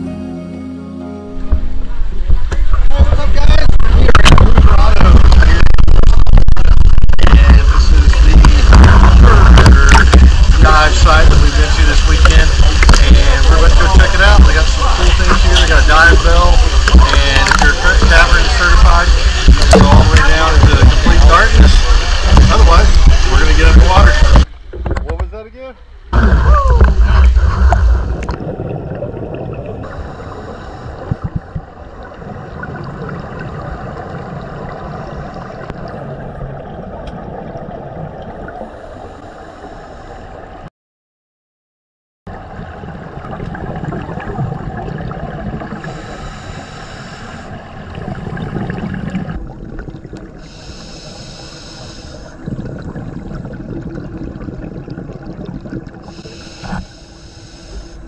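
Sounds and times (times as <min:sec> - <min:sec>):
underwater rushing gurgling water: 0:01.4 - 0:24.7, 0:26.1 - 0:40.7, 0:42.3 - 0:58.0
exhaled regulator bubbles: 0:02.7 - 0:24.5, 0:26.2 - 0:40.5, 0:42.3 - 0:58.0.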